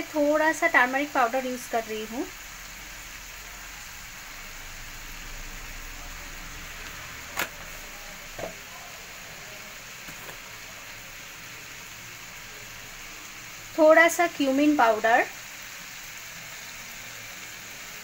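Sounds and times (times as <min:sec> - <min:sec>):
onions sizzling in a frying pan: 0:00.0 - 0:18.0.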